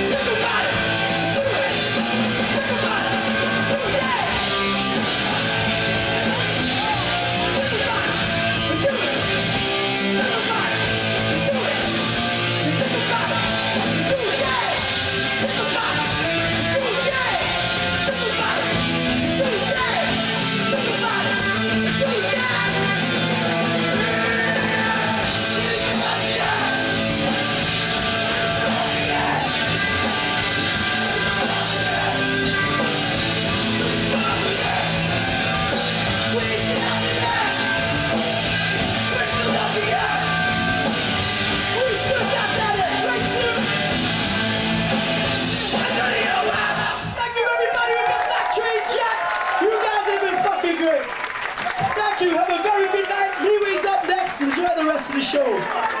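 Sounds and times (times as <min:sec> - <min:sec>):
person singing and shouting: 0:00.0 - 0:44.2, 0:45.6 - 0:51.0
electric guitar: 0:00.0 - 0:47.2
drums: 0:00.0 - 0:56.0.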